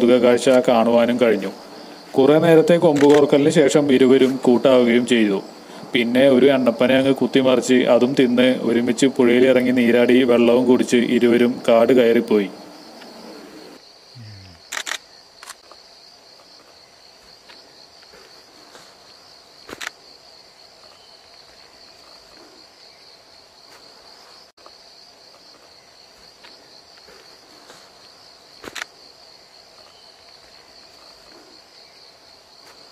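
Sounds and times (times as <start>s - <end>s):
high-pitched insect chorus: 0.0s - 32.9s.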